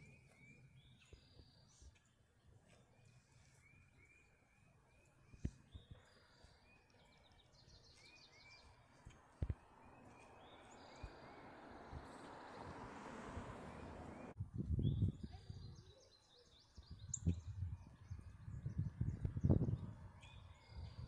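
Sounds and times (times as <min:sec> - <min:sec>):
small bird chirping: 0:00.0 - 0:12.6, 0:13.7 - 0:21.0.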